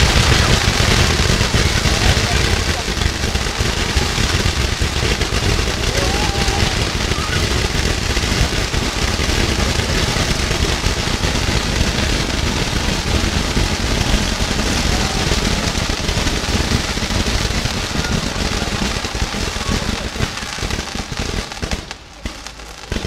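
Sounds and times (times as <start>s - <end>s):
firework fountain hissing: 0.0s - 23.0s.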